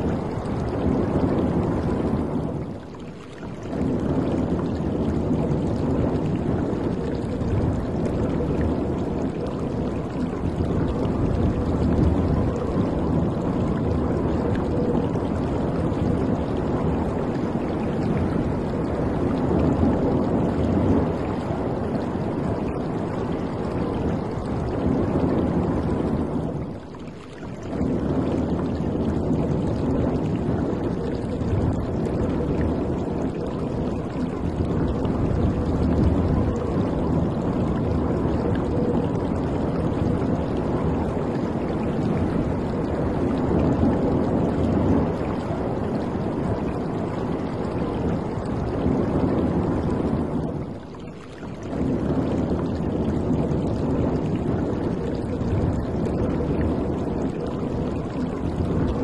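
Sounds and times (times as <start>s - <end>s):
waves splashing against hull: 0.0s - 59.0s.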